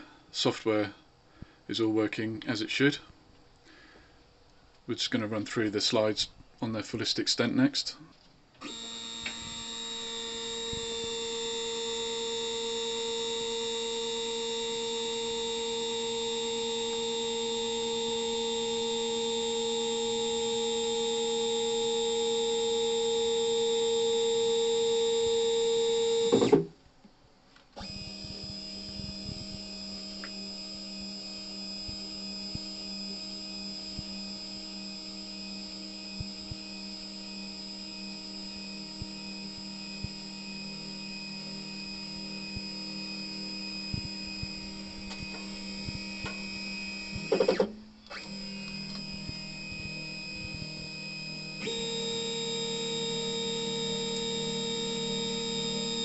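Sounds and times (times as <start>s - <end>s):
stepper motors whining: 8.6s - 26.6s, 27.8s - 56.0s.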